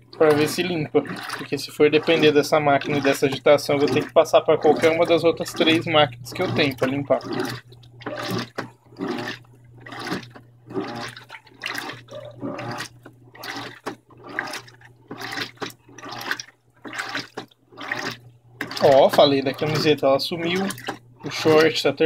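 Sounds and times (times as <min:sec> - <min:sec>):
washing machine motor hum: 0:00.0 - 0:22.0
washing machine water sloshing: 0:00.0 - 0:22.0.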